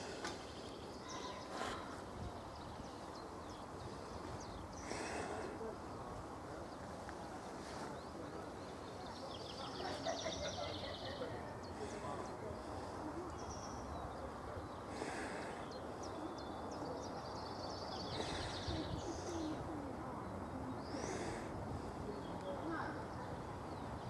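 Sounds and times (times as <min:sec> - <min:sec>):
faint outdoor hiss: 0:00.0 - 0:24.0
songbirds chirping and trilling: 0:00.0 - 0:24.0.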